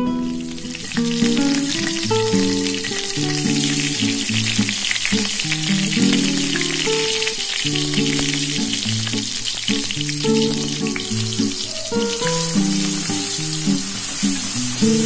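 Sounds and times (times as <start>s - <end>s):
background music with plucked notes: 0.0s - 15.0s
spice paste sizzling in oil: 0.0s - 15.0s.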